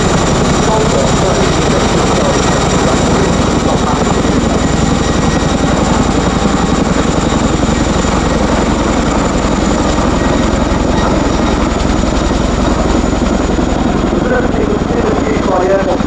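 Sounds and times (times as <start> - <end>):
helicopter rotors thudding: 0.0 - 16.0
turbine engine whine: 0.0 - 16.0.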